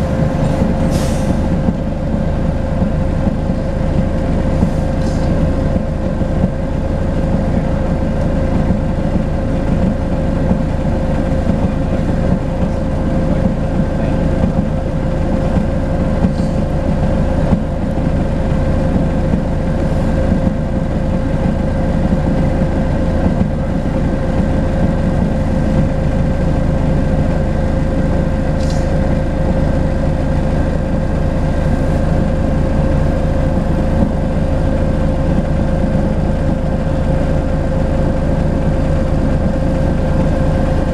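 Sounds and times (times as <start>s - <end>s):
bus diesel engine rumbling: 0.0s - 40.9s.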